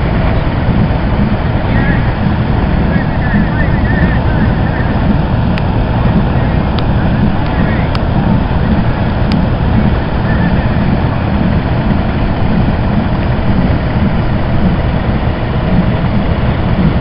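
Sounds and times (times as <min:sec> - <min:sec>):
threshing machine running: 0:00.0 - 0:17.0.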